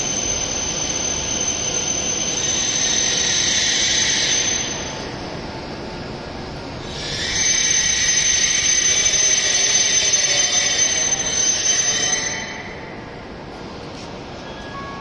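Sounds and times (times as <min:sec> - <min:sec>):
train brakes squealing hiss: 0:00.0 - 0:05.4, 0:06.8 - 0:13.2, 0:13.9 - 0:15.0.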